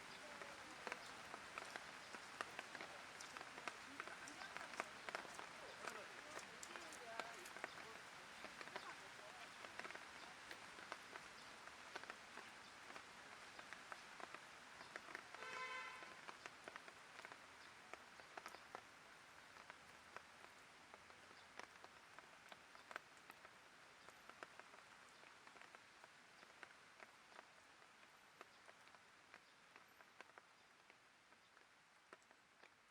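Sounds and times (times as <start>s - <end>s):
light rain falling: 0.0s - 32.9s
raindrops ticking: 0.0s - 32.9s.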